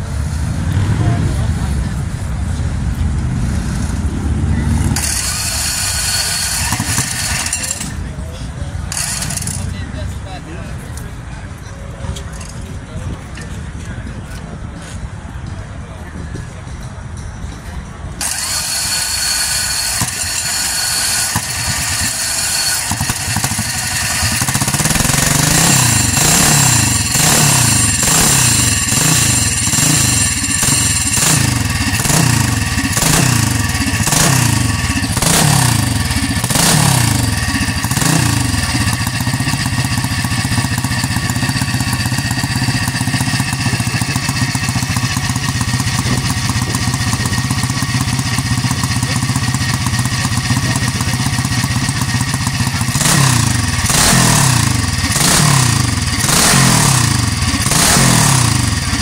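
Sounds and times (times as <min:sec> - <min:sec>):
motorcycle engine revving and idling: 0:00.0 - 0:14.4, 0:18.1 - 0:59.0.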